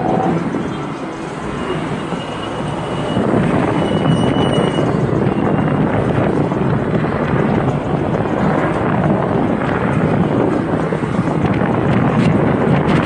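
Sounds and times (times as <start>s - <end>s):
vehicle road and engine noise: 0.0s - 13.0s.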